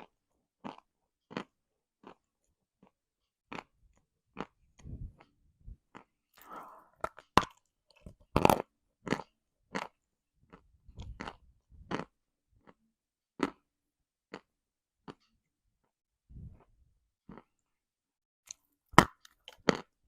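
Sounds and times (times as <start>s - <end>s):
person chewing with crunches: 0.0s - 15.4s, 16.5s - 17.8s, 18.5s - 20.0s.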